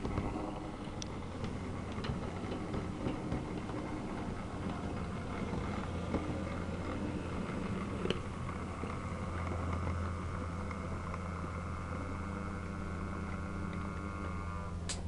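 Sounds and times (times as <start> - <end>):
wheel clicks on track: 0.0 - 12.1
model locomotive motor hum: 0.0 - 15.0.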